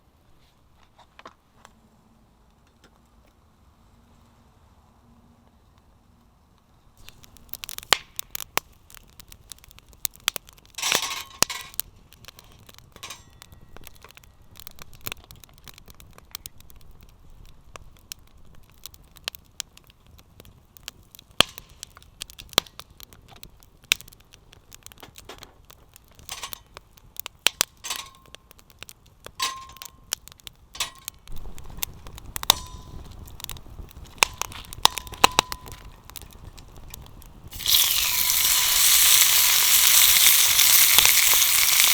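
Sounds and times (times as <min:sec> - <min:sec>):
campfire crackling: 0:05.4 - 0:41.9.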